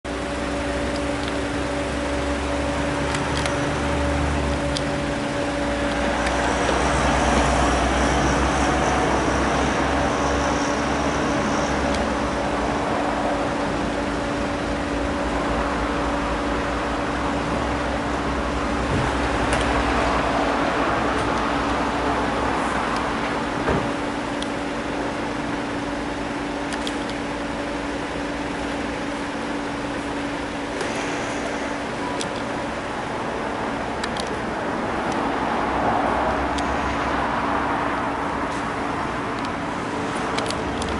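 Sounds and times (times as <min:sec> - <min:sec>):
turboprop aircraft drone: 0:00.1 - 0:40.9.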